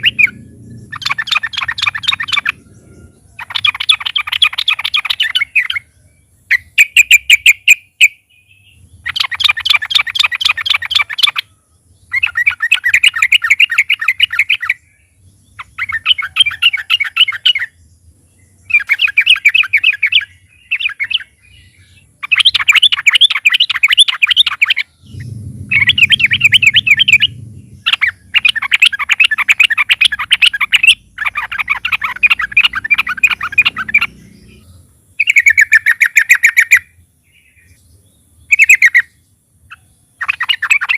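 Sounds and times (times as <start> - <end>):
bird singing rattling song: 0.0 - 40.9.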